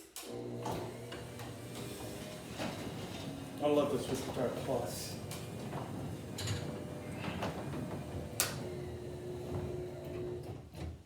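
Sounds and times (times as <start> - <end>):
garage door opener humming: 0.2 - 11.0.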